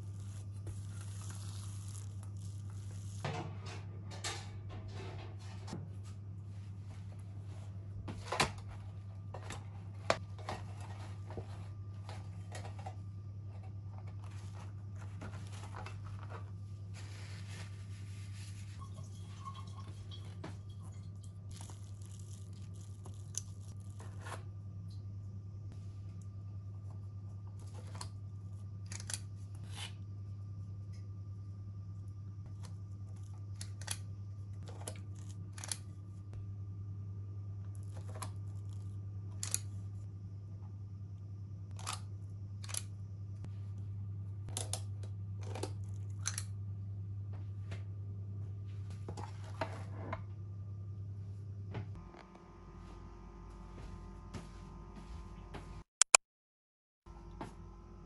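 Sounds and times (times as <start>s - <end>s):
low hum: 0.0s - 55.8s.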